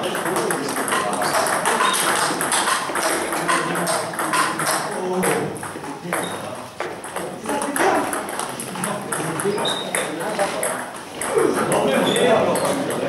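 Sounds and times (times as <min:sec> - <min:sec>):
table tennis balls clicking: 0:00.0 - 0:13.0.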